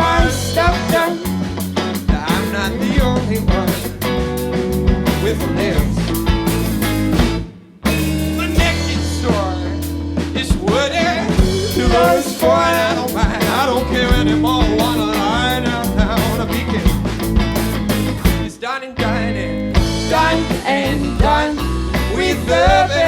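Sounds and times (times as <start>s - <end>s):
band playing rock music: 0.0s - 23.0s.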